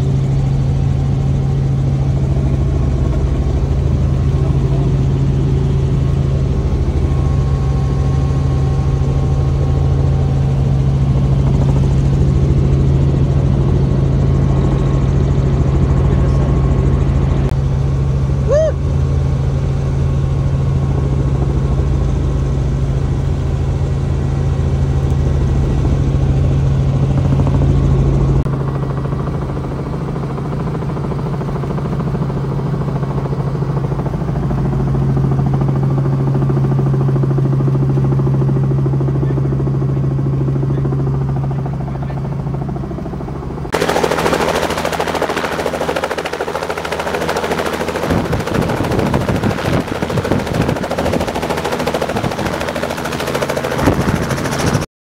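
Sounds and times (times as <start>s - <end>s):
helicopter drone inside cabin: 0.0s - 54.9s
helicopter rotor blades chopping: 0.0s - 54.9s.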